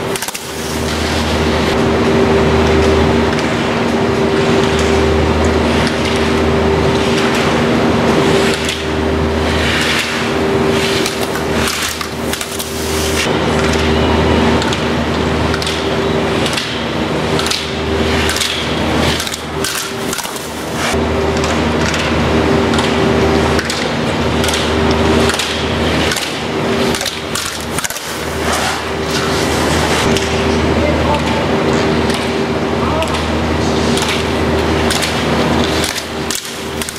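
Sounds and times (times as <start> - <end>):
machinery hum: 0.0 - 36.9.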